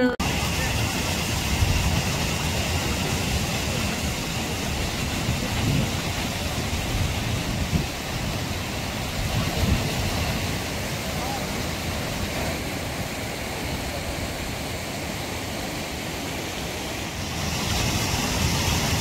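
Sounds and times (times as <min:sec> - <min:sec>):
rocky stream: 0:00.2 - 0:19.0
waterfall rushing: 0:00.2 - 0:19.0.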